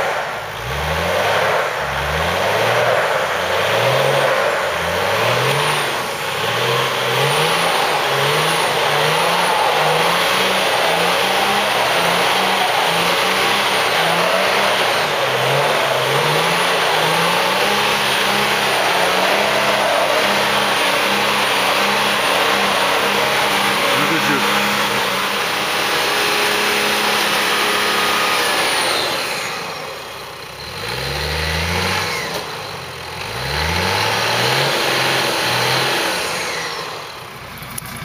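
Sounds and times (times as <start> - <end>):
diesel engine revving: 0.0 - 38.0
tyres churning snow: 0.0 - 38.0.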